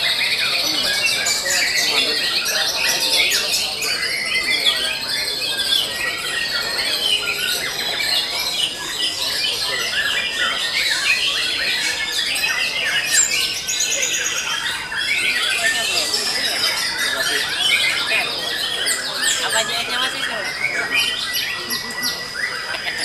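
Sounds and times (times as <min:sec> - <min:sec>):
birds singing in chorus: 0:00.0 - 0:23.0.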